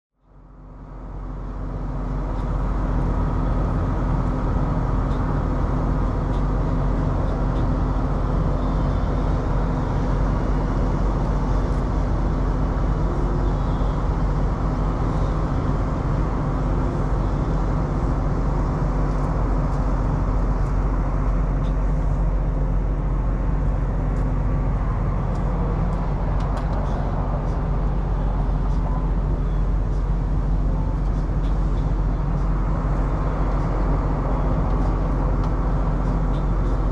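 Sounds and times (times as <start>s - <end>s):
diesel truck engine idling: 0.3s - 36.9s.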